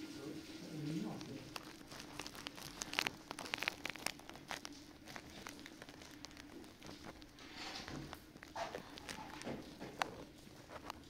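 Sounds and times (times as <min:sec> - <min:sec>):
blanket rustling and crinkling: 0:00.7 - 0:11.0.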